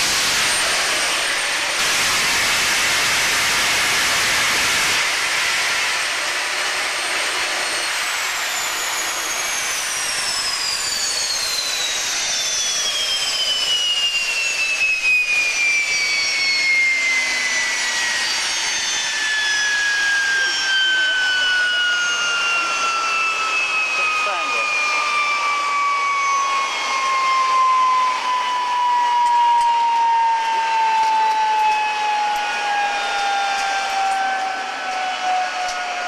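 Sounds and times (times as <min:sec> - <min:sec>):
gas turbine roaring and whining: 0:00.0 - 0:36.0.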